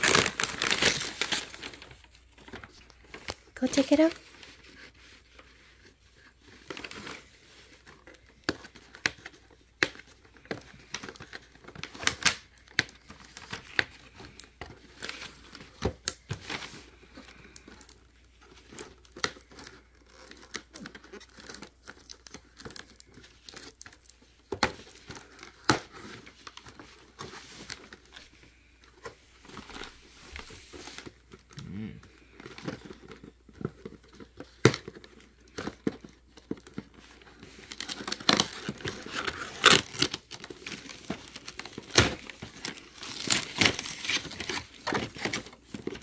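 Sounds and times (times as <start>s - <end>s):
packaging tearing and crinkling: 0.0s - 4.2s, 6.4s - 28.3s, 29.4s - 46.0s.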